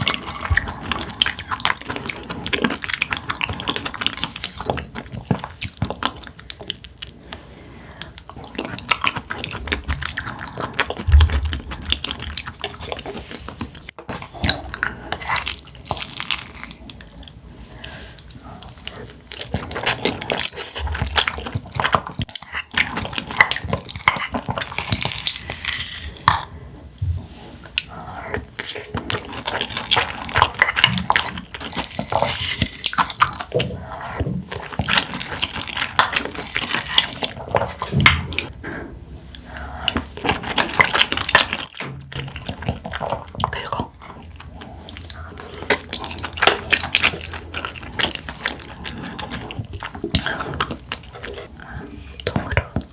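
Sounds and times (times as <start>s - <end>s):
wet chewing mouth sounds: 0.0s - 52.9s.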